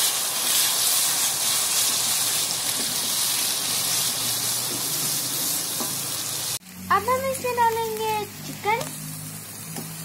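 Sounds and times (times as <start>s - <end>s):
food sizzling in hot oil: 0.0s - 10.0s
water hissing into steam: 0.0s - 10.0s.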